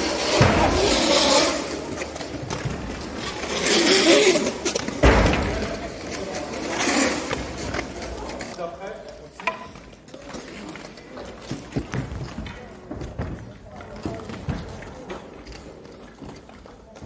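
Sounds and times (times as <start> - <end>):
skate wheels rolling on floor: 0.0 - 17.0.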